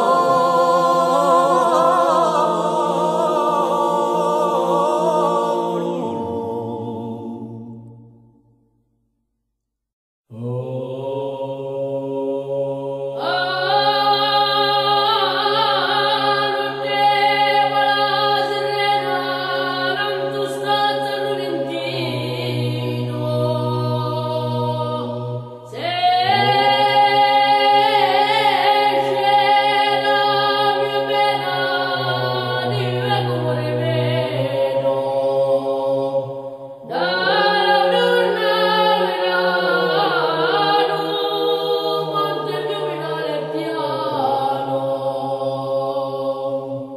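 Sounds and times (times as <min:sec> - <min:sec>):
male voices singing polyphony: 0:00.0 - 0:07.9, 0:10.3 - 0:46.9.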